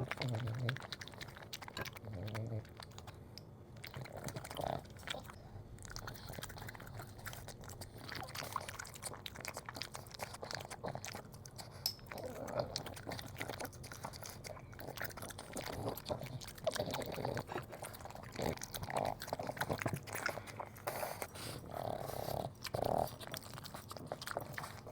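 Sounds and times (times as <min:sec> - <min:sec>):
dog crunching food: 0:00.0 - 0:03.2, 0:03.8 - 0:24.9.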